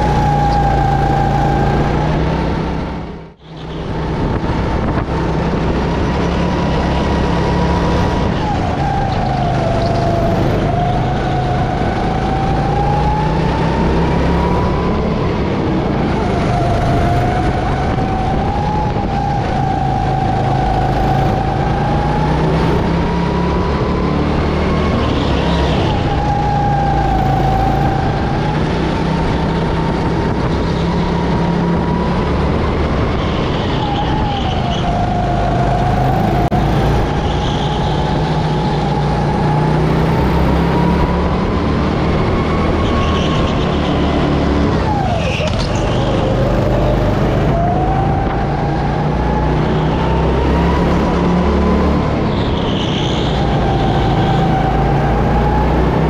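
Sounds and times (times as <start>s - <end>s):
go-kart engine racing: 0.0s - 56.0s.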